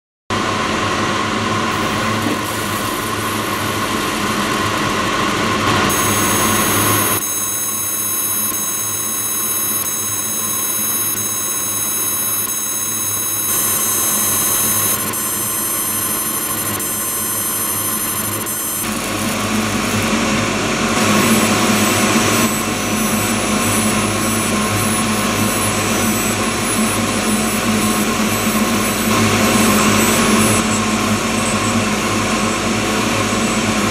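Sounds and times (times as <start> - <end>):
machine mechanical drone: 0.4 - 33.9
high-pitched whines: 1.7 - 33.9.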